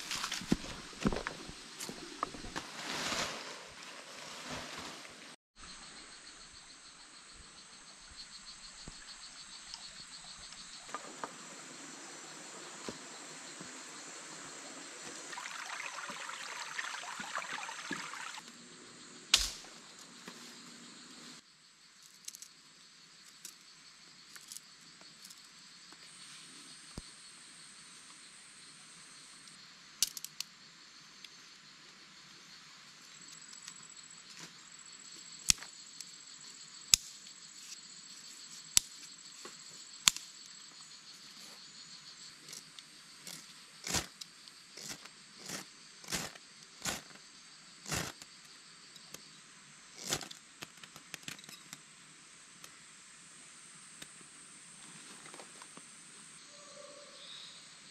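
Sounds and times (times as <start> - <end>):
insects trilling: 5.6 - 57.9.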